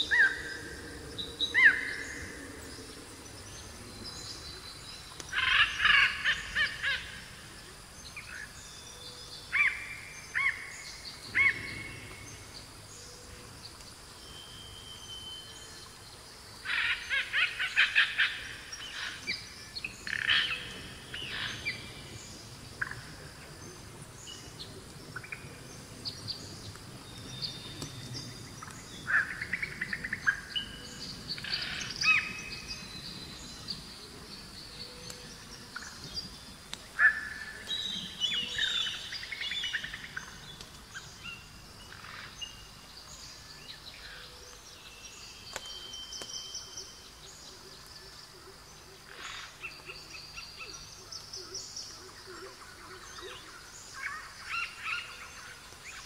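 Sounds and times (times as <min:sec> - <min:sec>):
wild birds singing and chirping: 0:00.0 - 0:56.0.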